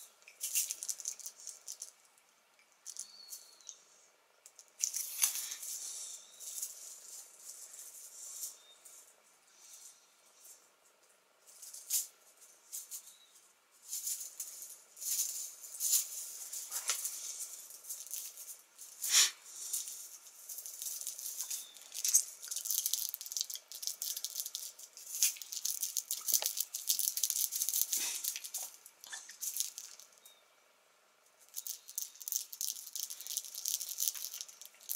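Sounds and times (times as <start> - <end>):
cat toy strands rustling: 0.0 - 2.2, 2.8 - 30.4, 31.3 - 34.9.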